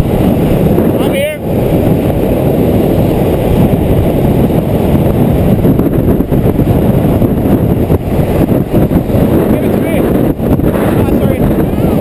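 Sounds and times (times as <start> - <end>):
skateboard wheels rolling on asphalt: 0.0 - 12.0
wind on microphone: 0.0 - 12.0.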